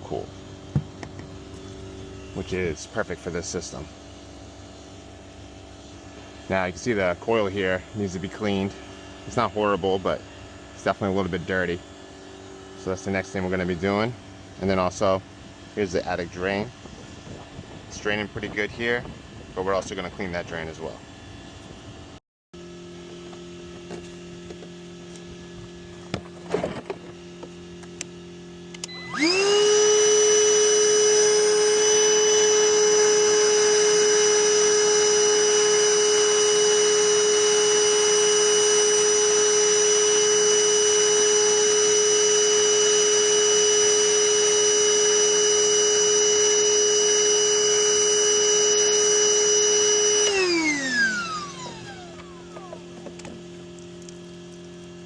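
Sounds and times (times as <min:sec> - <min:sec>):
low steady hum: 0:00.0 - 0:55.0
shop vacuum motor whine: 0:00.0 - 0:55.0.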